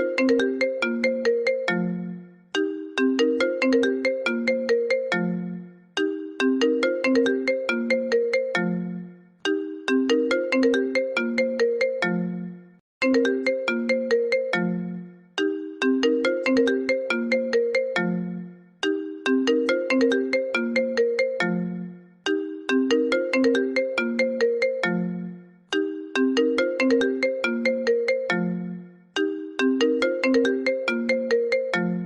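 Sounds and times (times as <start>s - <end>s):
phone ringtone melody: 0.0s - 32.0s.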